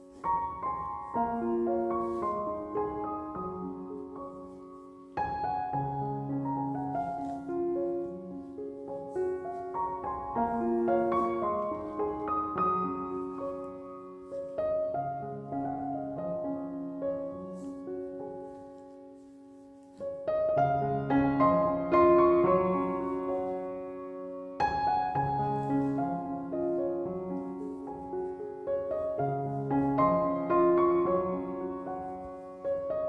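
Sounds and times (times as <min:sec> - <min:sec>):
gentle piano chords: 0:00.0 - 0:33.0.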